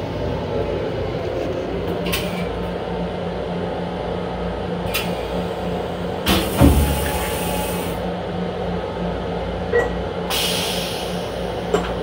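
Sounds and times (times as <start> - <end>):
train running hum and rumble: 0.0 - 12.0.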